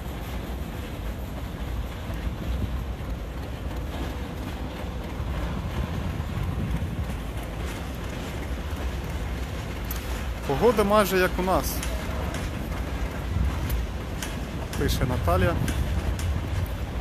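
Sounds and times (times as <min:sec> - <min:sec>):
train rumbling past: 0:00.0 - 0:17.0
wind noise on microphone: 0:00.0 - 0:17.0.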